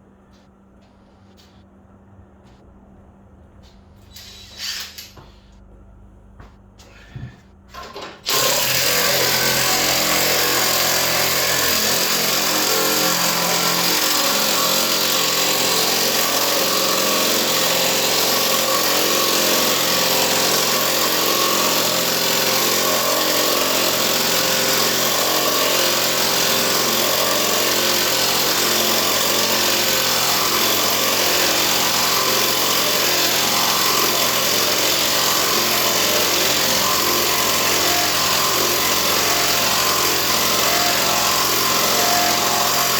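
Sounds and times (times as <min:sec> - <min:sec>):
motor-driven machine running: 0:08.2 - 0:42.9.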